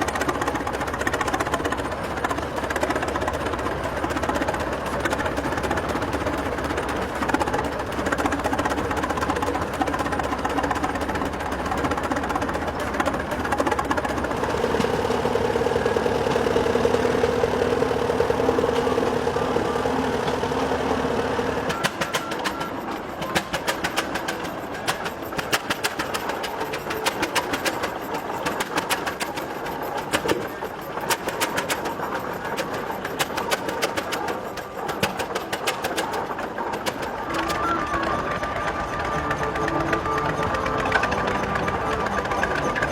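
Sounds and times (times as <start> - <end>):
engine clattering: 0.0 - 42.9
tractor engine humming: 0.0 - 42.9.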